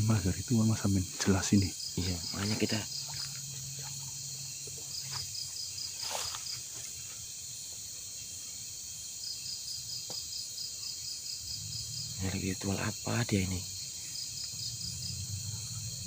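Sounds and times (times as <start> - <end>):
crickets chirping in quick pulses: 0.0 - 16.0
high insect drone: 0.0 - 16.0.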